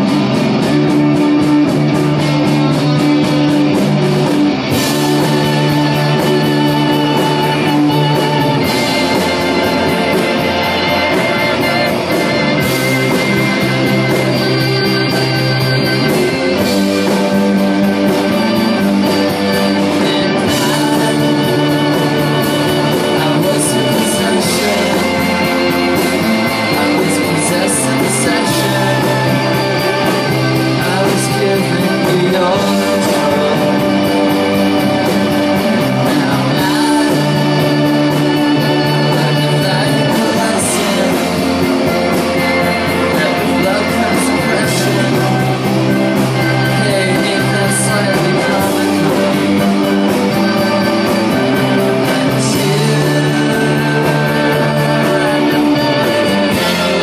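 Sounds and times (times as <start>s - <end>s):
drums with cymbal beat: 0.0s - 57.0s
electric guitar: 0.0s - 57.0s
person singing: 0.0s - 57.0s.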